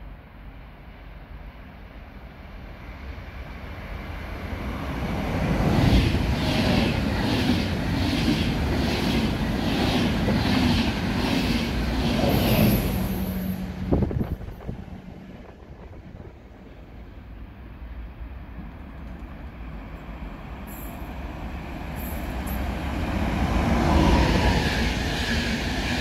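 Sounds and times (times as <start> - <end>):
passenger train rushing past: 0.0 - 26.0.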